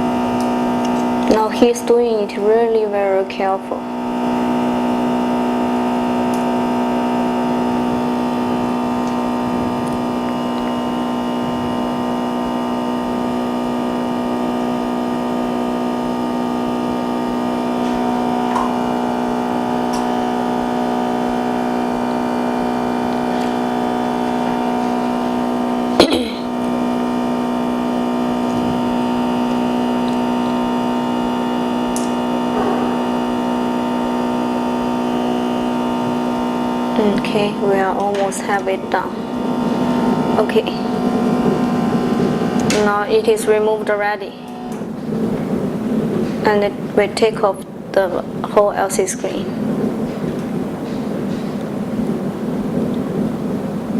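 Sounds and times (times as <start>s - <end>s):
electrical hum: 0.0s - 53.9s.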